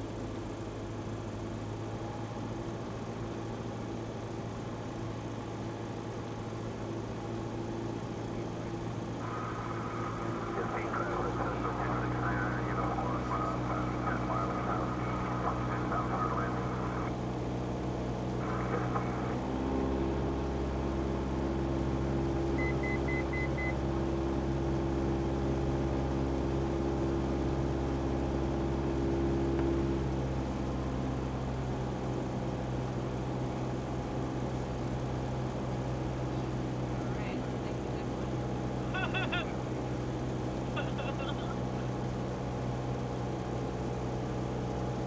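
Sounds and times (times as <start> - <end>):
airplane engine droning: 0.0 - 45.0.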